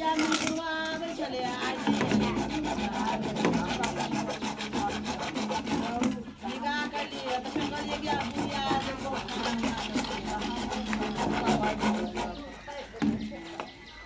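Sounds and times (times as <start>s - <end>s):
hacksaw blade rasping on plastic pipe: 0.0s - 12.5s.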